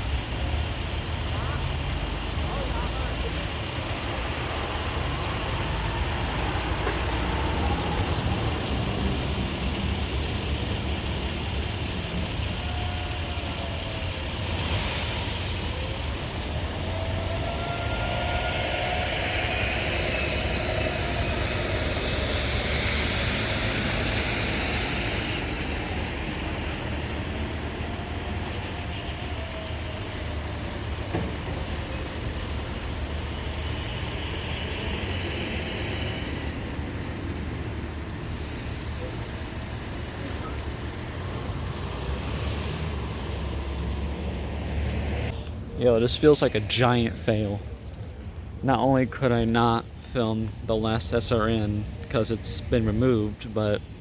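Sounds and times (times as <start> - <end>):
distant warning sirens wailing: 0.0 - 54.0
heavy truck traffic rumble: 0.0 - 54.0.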